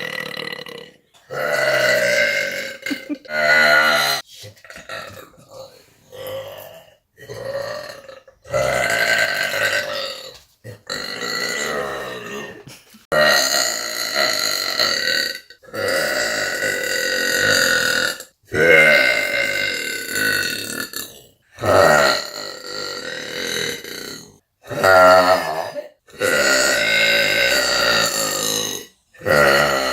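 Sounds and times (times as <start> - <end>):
woman belching: 0.0 - 5.3, 7.3 - 10.2, 10.9 - 29.9.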